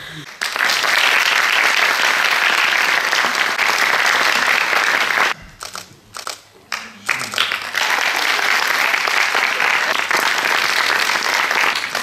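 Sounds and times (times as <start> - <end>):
audience applauding: 0.3 - 5.4, 6.7 - 12.0.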